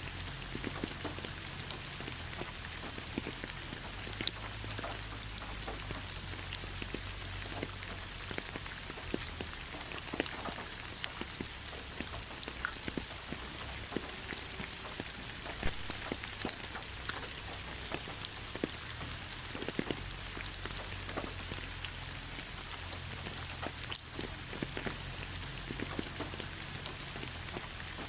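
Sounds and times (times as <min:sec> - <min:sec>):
rain falling on leaves: 0:00.0 - 0:28.0.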